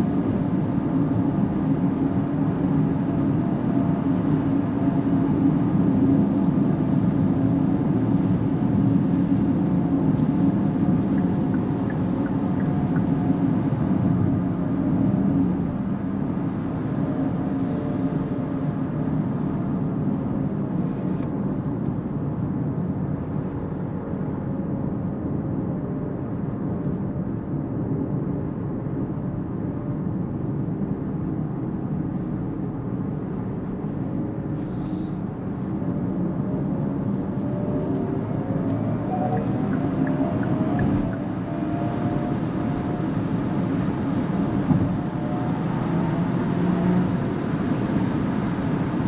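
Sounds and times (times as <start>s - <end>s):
road and wind noise in car: 0.0s - 49.0s.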